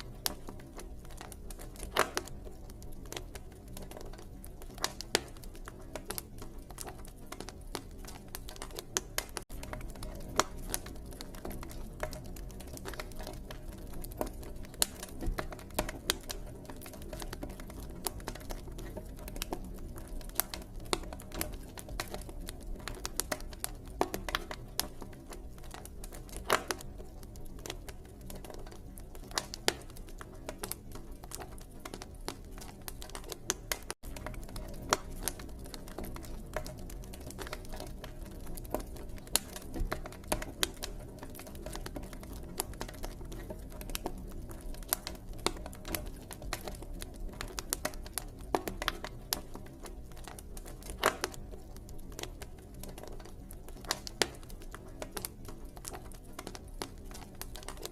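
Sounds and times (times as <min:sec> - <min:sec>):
campfire crackling and popping: 0:00.0 - 0:57.9
low rush of flames: 0:00.0 - 0:57.9.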